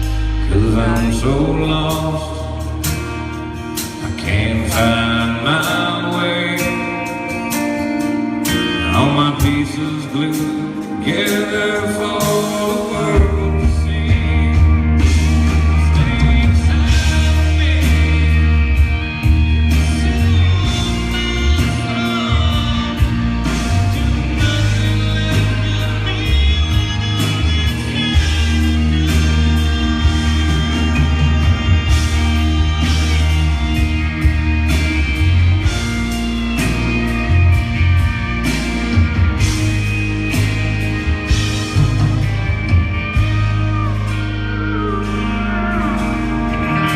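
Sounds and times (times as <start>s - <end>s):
heavy bass: 0.0s - 46.9s
live rock band: 0.0s - 46.9s.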